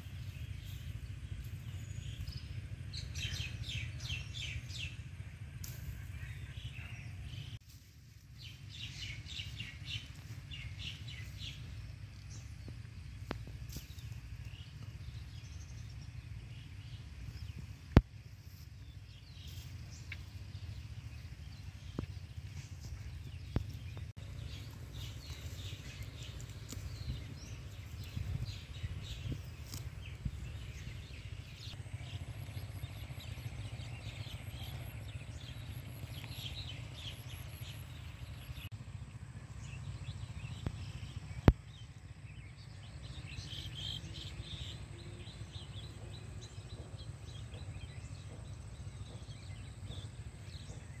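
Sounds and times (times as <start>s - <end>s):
small birds chirping: 0.0s - 51.0s
steady low rumble: 0.0s - 51.0s.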